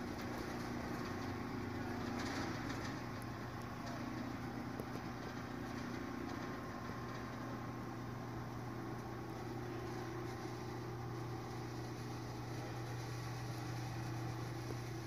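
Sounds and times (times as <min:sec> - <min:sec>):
garage door drive humming: 0:00.0 - 0:15.0.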